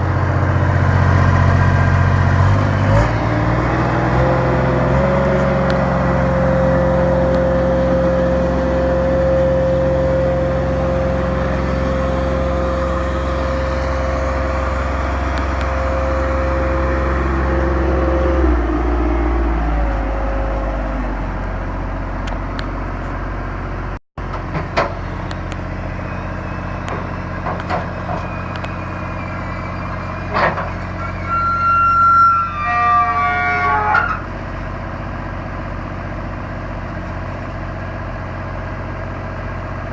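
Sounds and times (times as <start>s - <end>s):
excavator engine whining: 0.0s - 39.9s.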